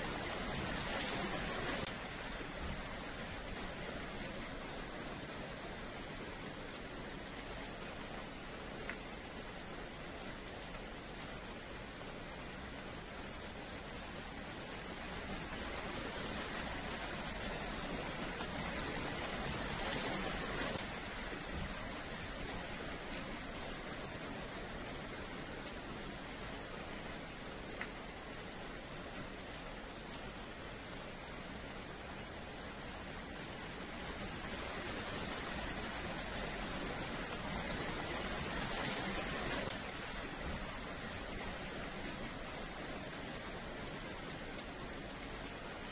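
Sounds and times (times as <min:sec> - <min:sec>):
rain falling on wet paving: 0:00.0 - 0:45.9.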